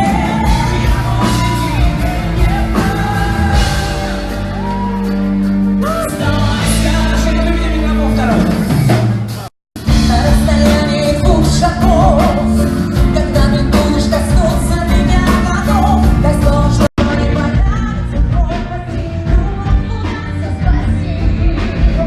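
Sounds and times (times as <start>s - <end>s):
band playing with steady beat: 0.0s - 22.0s
person singing live pop song: 0.0s - 22.0s.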